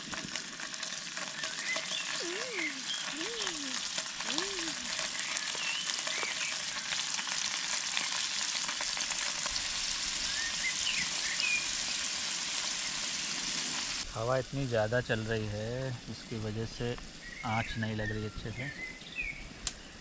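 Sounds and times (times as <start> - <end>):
paneer sizzling in hot oil: 0.0 - 18.7.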